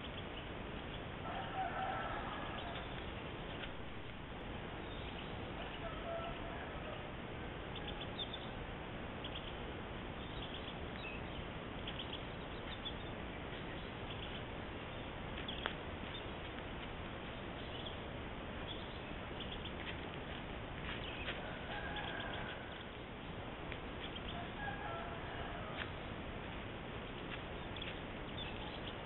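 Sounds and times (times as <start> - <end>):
microphone hiss: 0.0 - 29.0.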